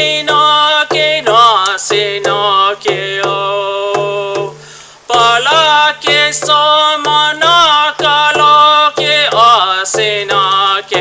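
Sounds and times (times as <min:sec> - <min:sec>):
man chanting a song: 0:00.0 - 0:11.0
steady drum beat: 0:00.0 - 0:11.0.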